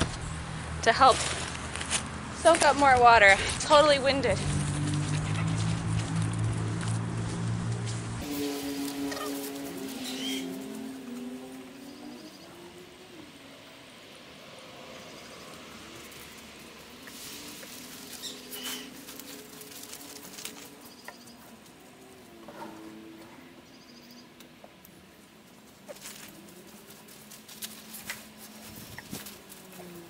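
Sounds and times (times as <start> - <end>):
rustling of shavings and leaves: 0.1 - 13.5, 14.4 - 22.8, 25.2 - 30.0.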